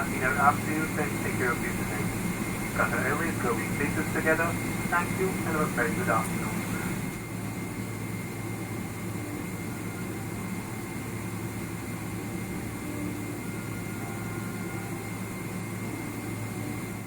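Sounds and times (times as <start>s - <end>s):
airplane cabin rumble and hiss: 0.0s - 17.0s
thin steady high whine: 0.0s - 17.0s.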